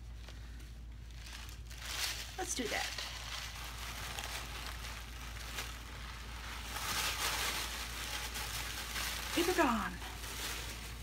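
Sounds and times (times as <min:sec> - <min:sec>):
tissue paper crinkling: 0:00.0 - 0:11.0.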